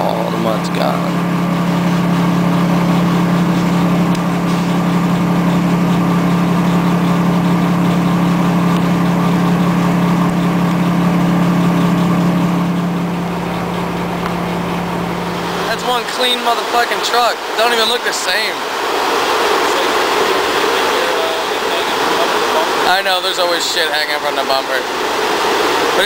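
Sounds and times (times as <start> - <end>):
car wash machinery drone: 0.0 - 26.0.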